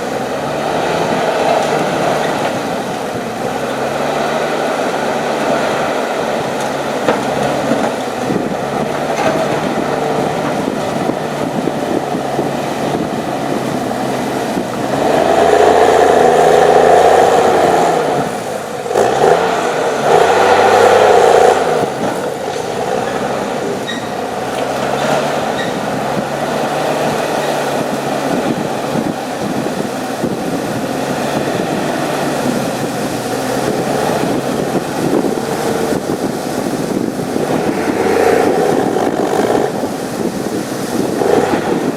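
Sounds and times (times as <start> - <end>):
diesel engine revving under load: 0.0 - 41.9.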